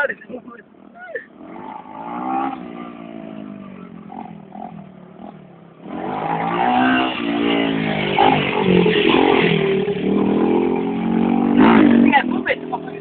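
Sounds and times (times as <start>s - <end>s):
motocross bike engine revving: 1.3s - 13.0s.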